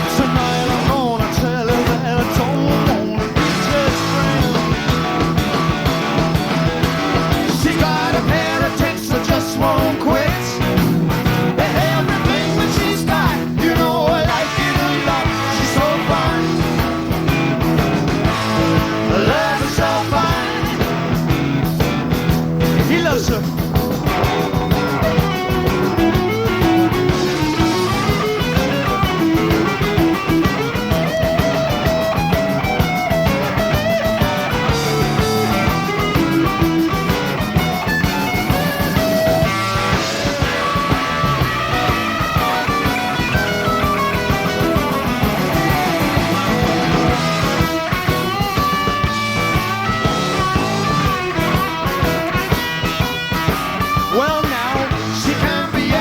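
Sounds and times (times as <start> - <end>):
bass guitar: 0.0 - 56.0
drums: 0.0 - 56.0
electric guitar lead: 0.0 - 56.0.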